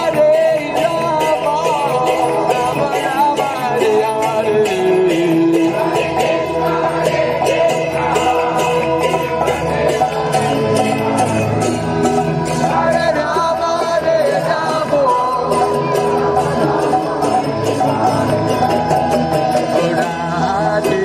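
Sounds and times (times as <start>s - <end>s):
group singing: 0.0s - 21.0s
hand drum beat: 0.0s - 21.0s.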